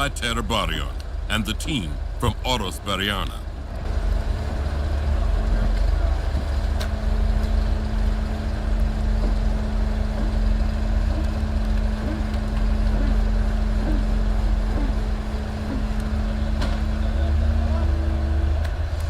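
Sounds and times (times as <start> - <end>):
excavator diesel engine rumbling: 0.0 - 19.0.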